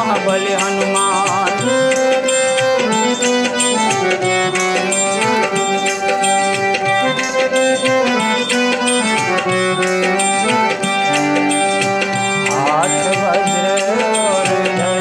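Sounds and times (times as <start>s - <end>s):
melody of held notes: 0.0s - 15.0s
steady percussion beat: 0.0s - 15.0s.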